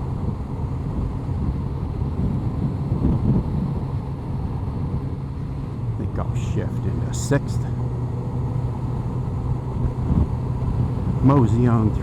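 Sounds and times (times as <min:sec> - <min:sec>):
road noise: 0:00.0 - 0:12.0
wind noise: 0:00.0 - 0:12.0.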